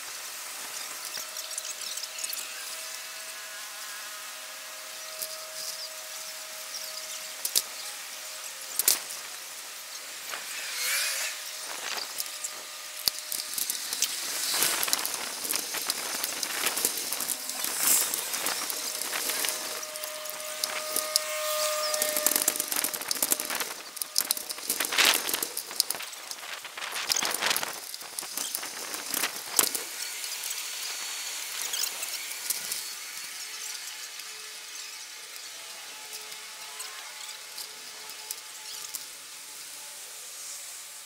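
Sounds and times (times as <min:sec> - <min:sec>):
steady thin whine: 0:00.0 - 0:41.0
bicycle rattling and clicking: 0:00.6 - 0:02.8, 0:05.0 - 0:39.3.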